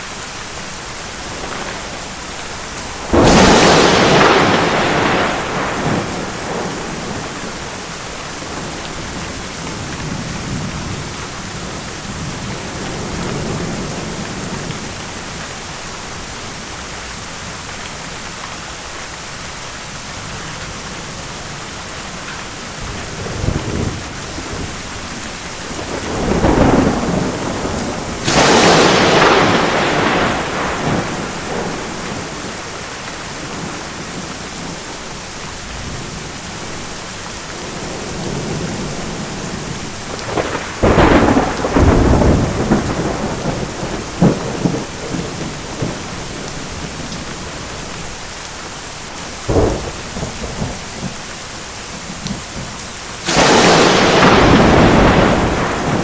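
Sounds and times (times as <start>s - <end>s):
steady rain: 0.0s - 56.0s
rolling thunder: 1.1s - 15.4s, 21.0s - 48.2s, 49.2s - 56.0s.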